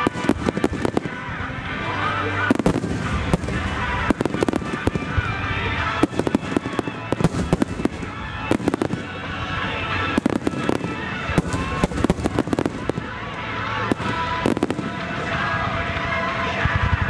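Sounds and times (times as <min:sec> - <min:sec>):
firework crackling: 0:00.0 - 0:17.0
music: 0:00.0 - 0:17.0.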